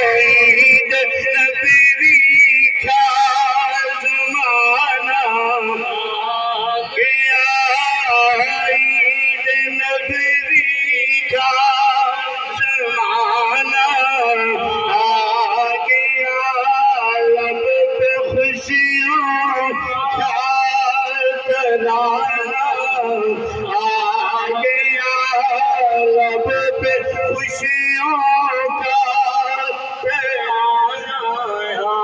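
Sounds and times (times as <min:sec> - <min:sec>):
man singing devotional song: 0:00.0 - 0:32.0.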